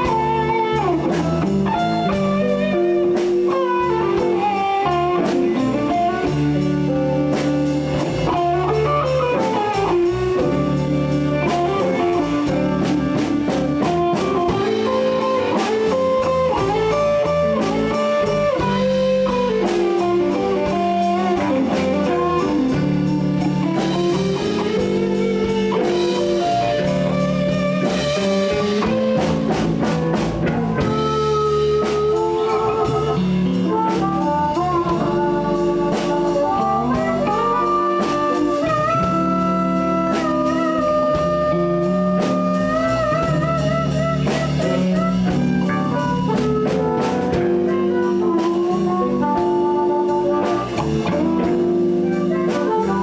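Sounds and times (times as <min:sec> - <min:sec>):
bending guitar melody: 0:00.0 - 0:53.0
blues band playing: 0:00.0 - 0:53.0.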